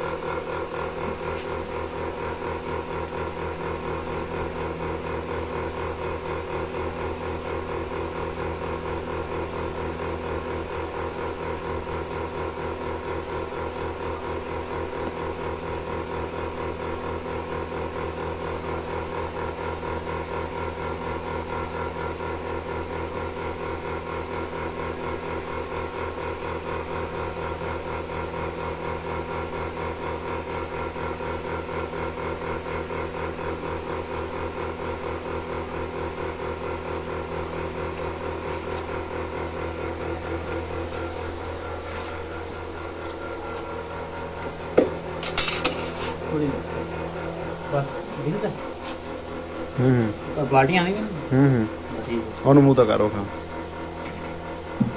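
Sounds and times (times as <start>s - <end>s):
milking machine pulsing hum: 0.0s - 54.9s.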